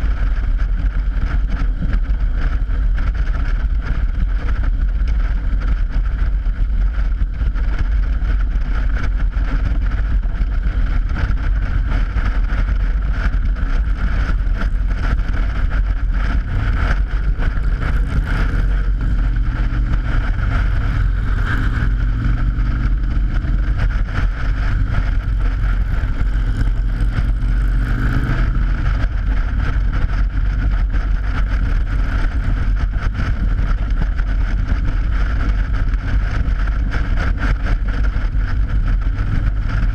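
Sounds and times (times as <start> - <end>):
droning engine: 0.0 - 39.9
wind rumble on microphone: 0.0 - 39.9.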